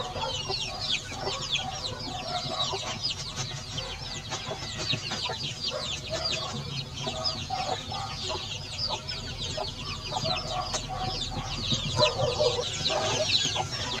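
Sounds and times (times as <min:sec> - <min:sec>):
chickens clucking: 0:00.0 - 0:14.0
chorus of high chirps: 0:00.0 - 0:14.0.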